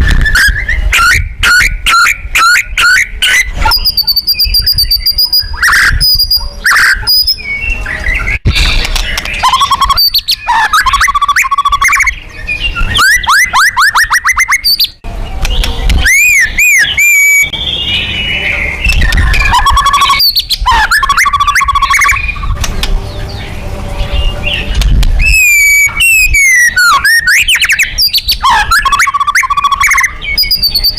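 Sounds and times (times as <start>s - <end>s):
songbird singing trills and whistles: 0.0s - 30.9s.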